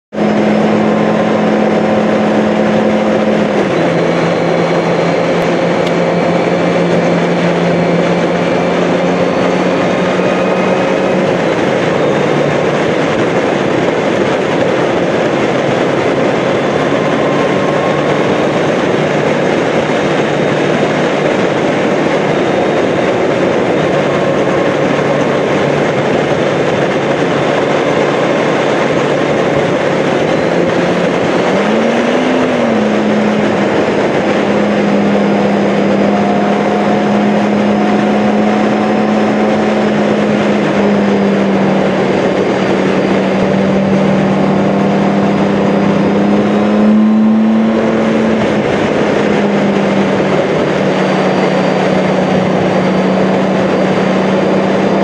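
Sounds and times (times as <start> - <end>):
motorcycle engine humming: 0.0 - 55.0
wind and road noise: 0.1 - 55.0.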